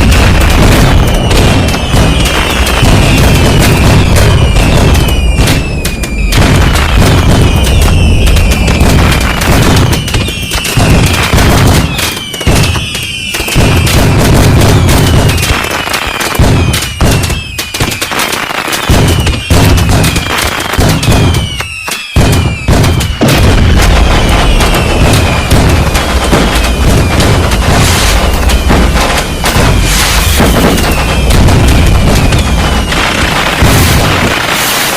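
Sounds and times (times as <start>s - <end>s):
fireworks bangs and crackle: 0.0s - 34.9s
whistling fireworks: 0.0s - 34.9s.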